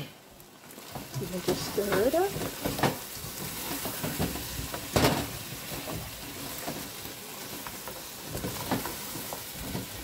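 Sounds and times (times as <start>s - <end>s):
paste sizzling in a pot: 0.0s - 10.0s.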